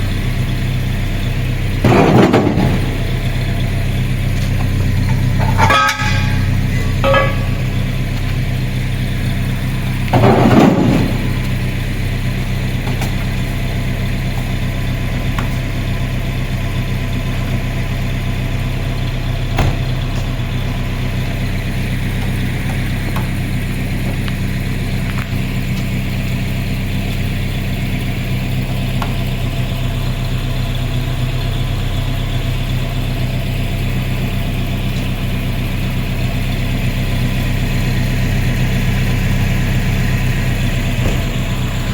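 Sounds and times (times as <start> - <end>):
engine clatter: 0.0 - 41.9
vehicle engine idling: 0.0 - 41.9.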